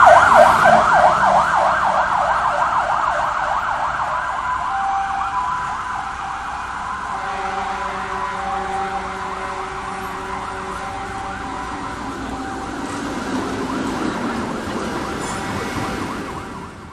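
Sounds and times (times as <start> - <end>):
fast warbling siren: 0.0 - 16.9
two-tone hi-lo siren: 0.0 - 16.9.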